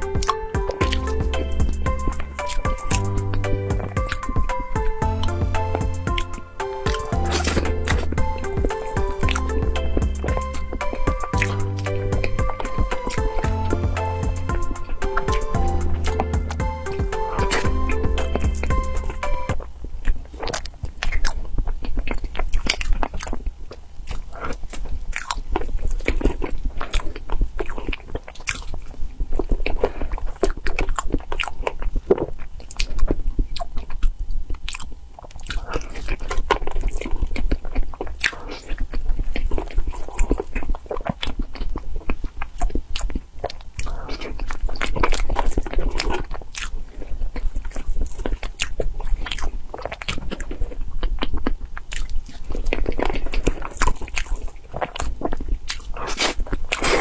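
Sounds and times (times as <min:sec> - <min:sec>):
person chewing wet mouth sounds: 0:00.0 - 0:57.0.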